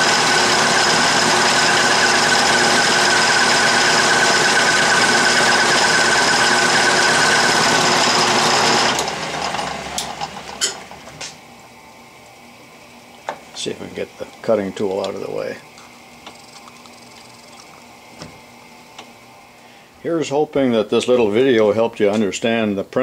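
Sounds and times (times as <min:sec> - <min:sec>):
lathe whine: 0:00.0 - 0:20.2.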